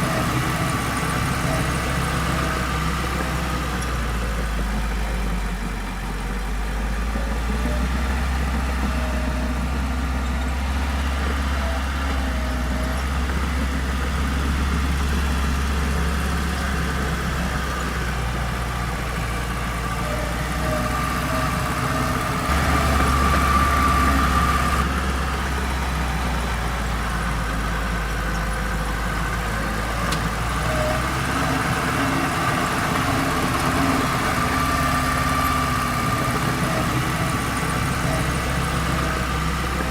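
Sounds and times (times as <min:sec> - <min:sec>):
diesel machinery engine rumble: 0:00.0 - 0:39.9.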